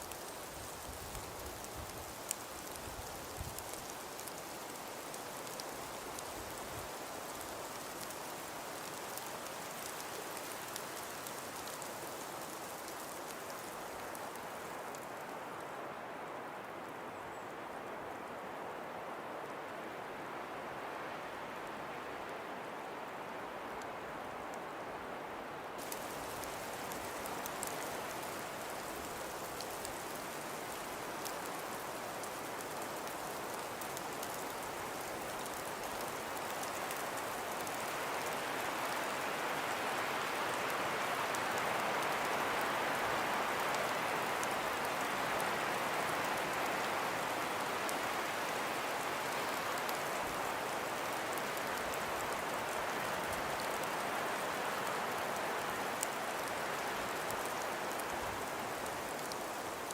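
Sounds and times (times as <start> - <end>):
fine ticks of ice grains: 0.0 - 15.6, 25.8 - 59.9
wind-blown snow hissing: 0.0 - 16.0, 25.7 - 59.9.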